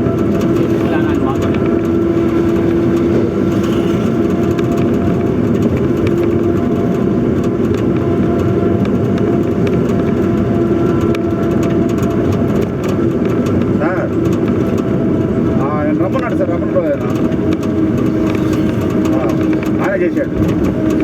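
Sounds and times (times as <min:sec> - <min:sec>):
road noise: 0:00.0 - 0:21.0
truck engine drone: 0:00.0 - 0:21.0.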